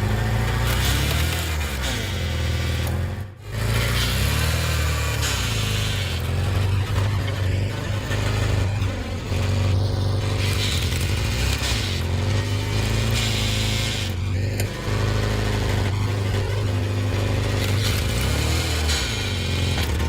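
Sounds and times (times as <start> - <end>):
hydraulic power unit drone: 0.0 - 20.0.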